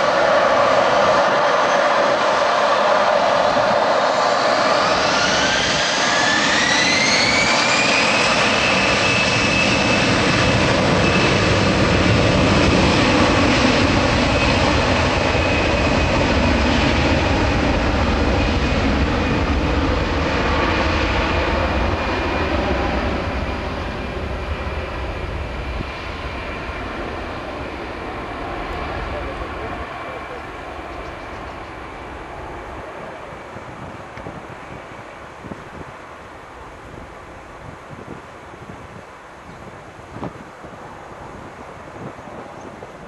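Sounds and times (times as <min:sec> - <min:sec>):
jet engine whine rising: 0:00.0 - 0:35.9
jet engine roar: 0:00.0 - 0:43.0.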